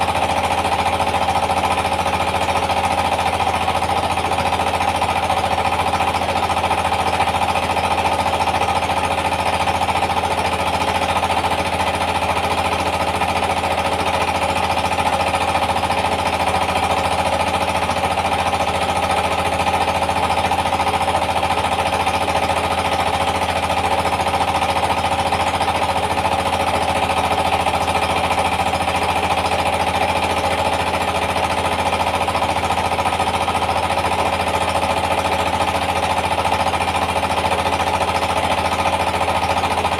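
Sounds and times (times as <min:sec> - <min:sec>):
diesel engine pounding: 0:00.0 - 0:39.9
rice mill rattling: 0:00.0 - 0:39.9.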